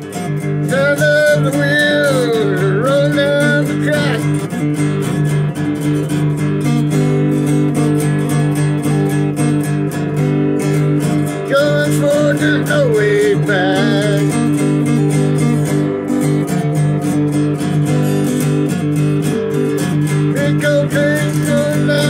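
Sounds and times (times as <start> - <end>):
acoustic guitar strumming: 0.0 - 22.0
harmonica melody: 0.0 - 22.0.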